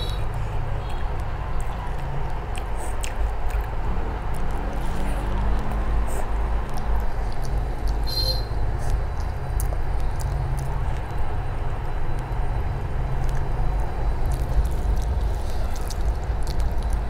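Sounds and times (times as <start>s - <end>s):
person chewing: 0.0s - 17.0s
steady low rumble: 0.0s - 17.0s.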